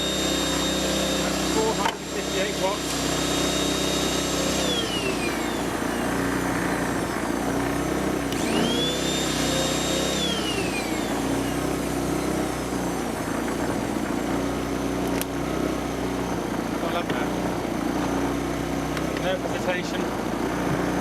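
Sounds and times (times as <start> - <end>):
generator engine running: 0.0 - 21.0.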